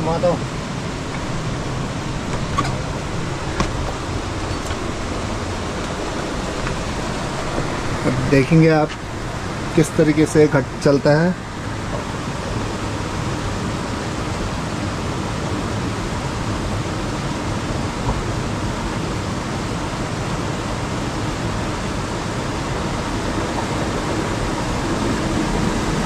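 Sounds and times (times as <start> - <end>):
water rushing through channel: 0.0 - 26.0.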